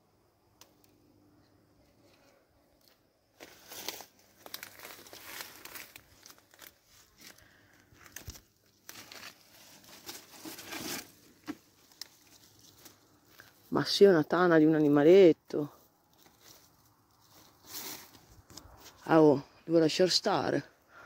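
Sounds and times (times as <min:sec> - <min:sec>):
leaves and undergrowth rustling: 0:02.1 - 0:20.6.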